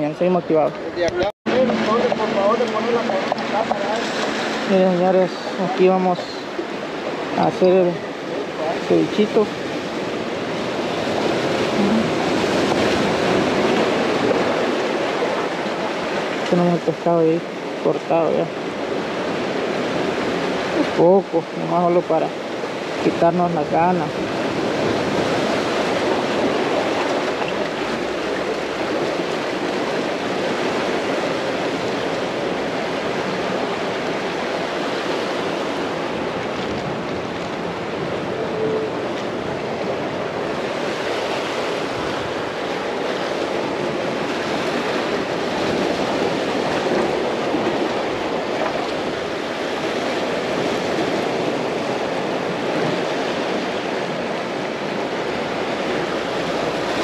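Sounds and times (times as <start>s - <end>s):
ocean surf washing on beach: 0.0s - 57.0s.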